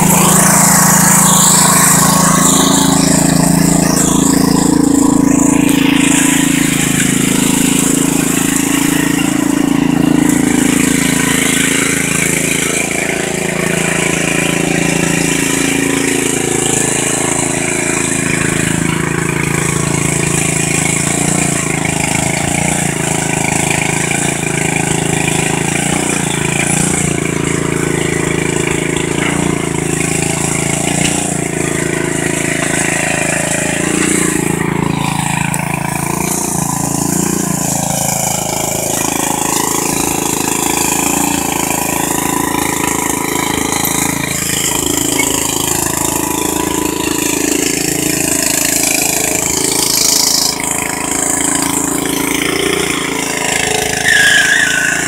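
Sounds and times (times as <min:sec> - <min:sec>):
riding mower engine under load: 0:00.0 - 0:55.0.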